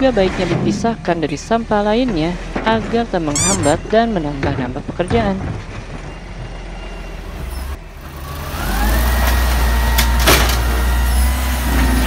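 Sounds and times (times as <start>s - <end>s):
garbage truck engine running: 0.0s - 12.0s.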